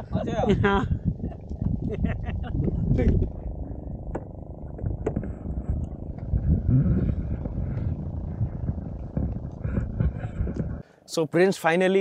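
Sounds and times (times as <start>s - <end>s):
boat engine running: 0.0s - 10.8s.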